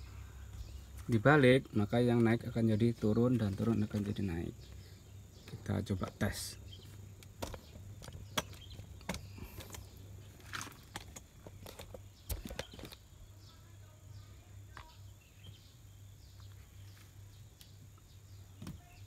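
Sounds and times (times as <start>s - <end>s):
faint high bird chirps: 0.0s - 19.0s
steady low hum: 0.0s - 19.0s.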